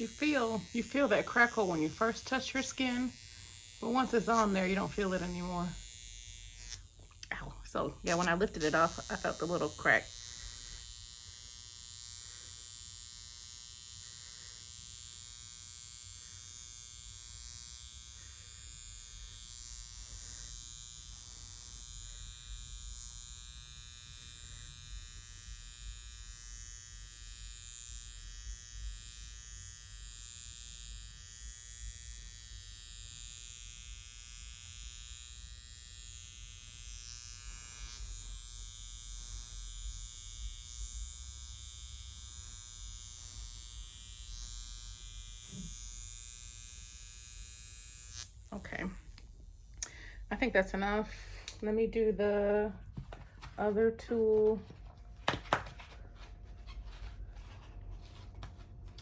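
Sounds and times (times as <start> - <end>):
facial machine buzzing: 0.0 - 59.0.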